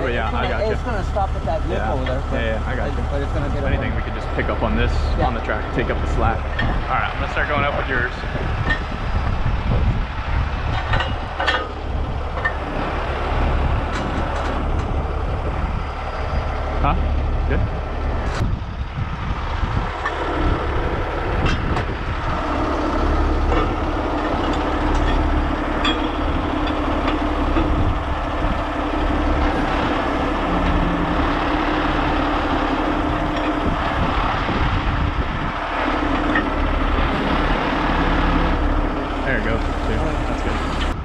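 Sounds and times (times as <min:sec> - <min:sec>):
diesel engine running under load: 0:00.0 - 0:41.0.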